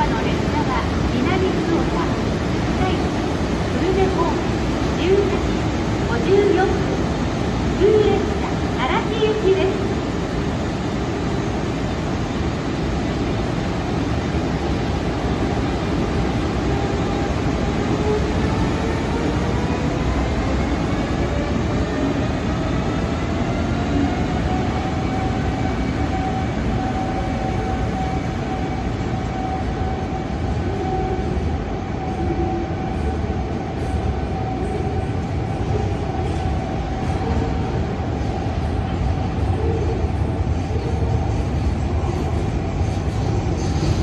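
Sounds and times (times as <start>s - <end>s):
train rumbling on rails: 0.0s - 44.0s.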